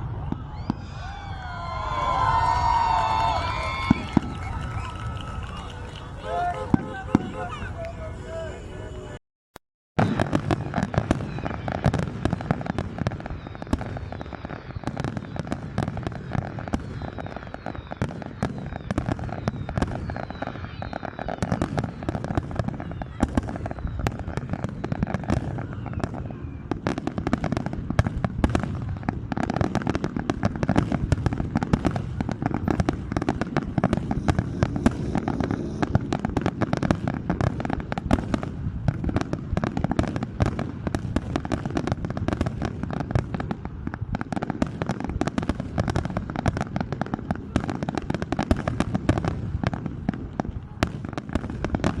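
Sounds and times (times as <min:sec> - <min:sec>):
fireworks bangs and crackles: 0:00.0 - 0:09.2, 0:10.0 - 0:52.0
fireworks whistles: 0:00.0 - 0:09.2, 0:10.0 - 0:50.0.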